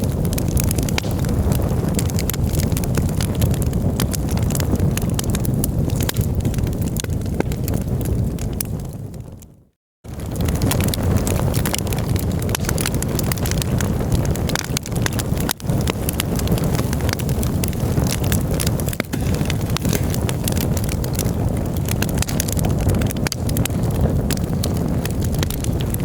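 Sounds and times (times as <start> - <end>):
campfire crackling and popping: 0.0 - 9.5, 10.1 - 26.0.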